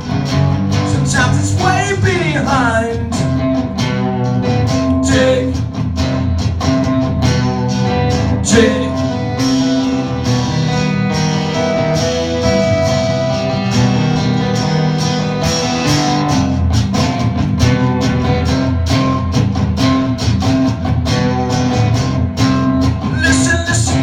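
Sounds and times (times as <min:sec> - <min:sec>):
acoustic band playing instrumental: 0:00.0 - 0:24.0
guitar strumming: 0:00.0 - 0:24.0.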